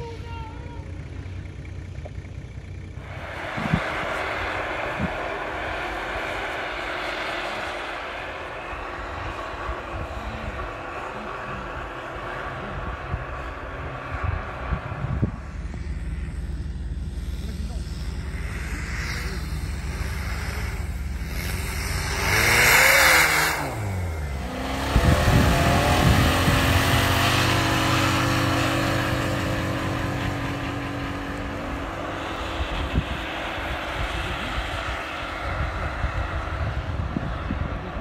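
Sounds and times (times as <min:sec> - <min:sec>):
engine revving: 0:00.0 - 0:38.0
tyres churning through snow: 0:00.0 - 0:38.0.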